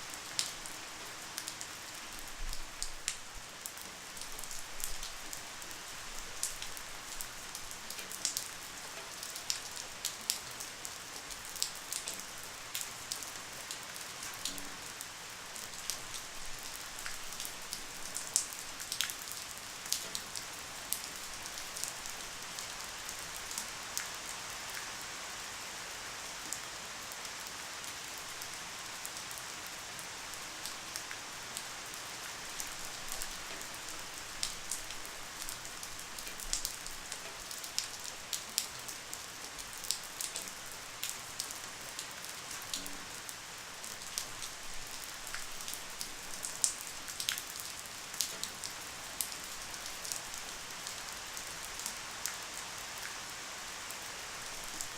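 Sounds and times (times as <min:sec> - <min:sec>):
light rain hissing: 0:00.0 - 0:54.9.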